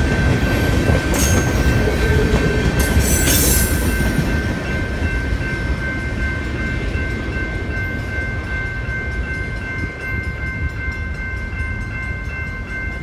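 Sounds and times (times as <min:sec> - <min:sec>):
train cars rumbling on rails: 0:00.0 - 0:13.0.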